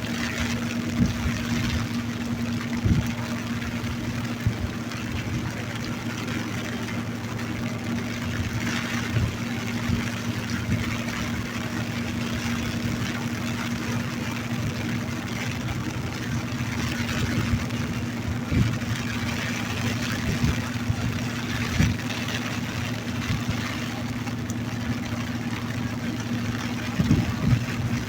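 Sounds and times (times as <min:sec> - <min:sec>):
constant low hum: 0:00.0 - 0:28.0
steady rain falling: 0:00.0 - 0:28.0.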